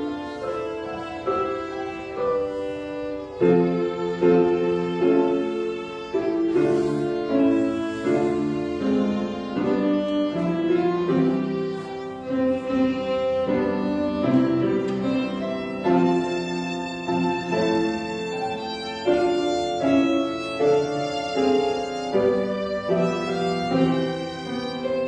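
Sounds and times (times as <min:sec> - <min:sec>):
bowed violin melody: 0:00.0 - 0:25.0
piano chords: 0:00.0 - 0:25.0.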